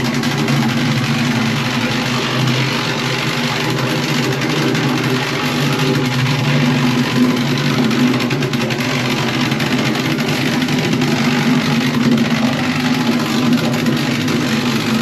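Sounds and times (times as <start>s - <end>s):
plate compactor engine running: 0.0s - 15.0s.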